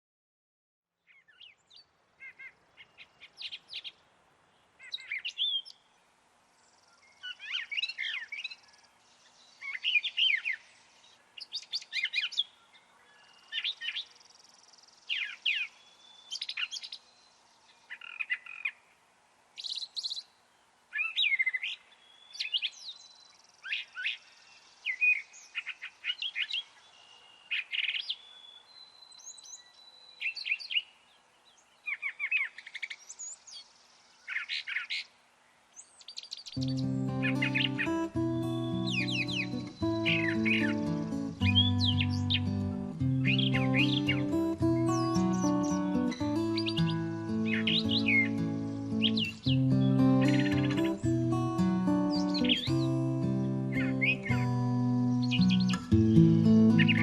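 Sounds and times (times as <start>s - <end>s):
songbirds chirping and singing: 6.7s - 18.8s, 21.0s - 35.1s, 35.8s - 57.0s.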